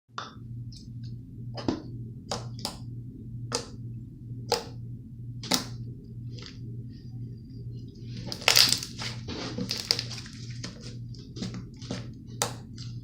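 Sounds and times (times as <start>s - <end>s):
low pulsing hum: 0.1s - 13.0s.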